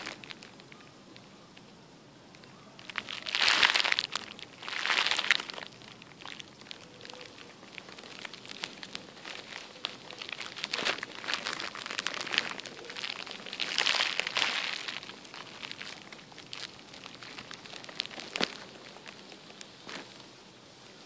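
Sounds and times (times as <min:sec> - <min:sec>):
leaves rustling and crunching: 0:00.0 - 0:01.2, 0:02.4 - 0:21.0.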